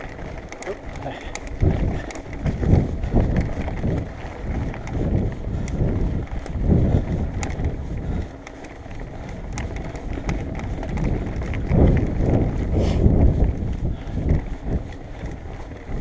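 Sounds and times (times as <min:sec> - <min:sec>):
bike clicks and rattles: 0:00.0 - 0:16.0
tyres on dirt and gravel: 0:00.0 - 0:16.0
wind rumble on microphone: 0:00.0 - 0:16.0.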